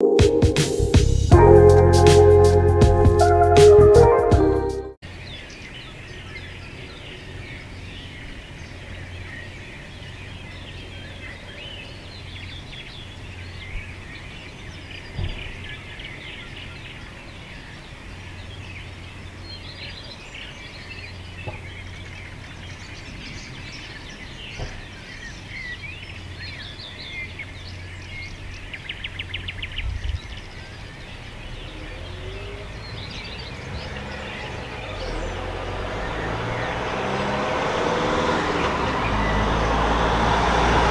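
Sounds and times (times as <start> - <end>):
small birds chirping and singing: 5.0 - 40.9
traffic rumble: 5.1 - 40.9.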